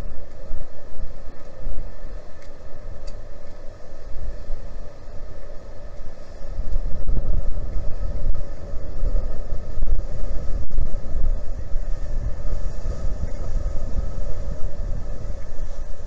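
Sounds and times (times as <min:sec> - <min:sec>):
ship engine rumble and hum: 0:00.0 - 0:16.0
wind buffeting microphone: 0:00.0 - 0:16.0.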